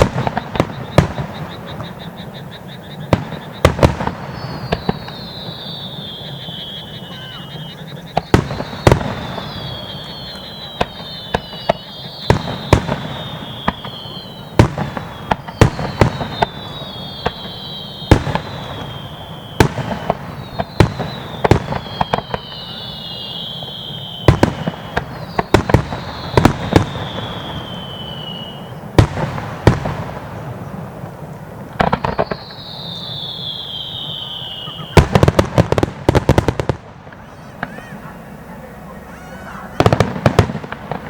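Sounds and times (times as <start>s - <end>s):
falling firework whistles: 0.0s - 41.0s
fireworks bursting with bangs: 0.0s - 41.0s
fireworks crackling: 0.0s - 41.0s.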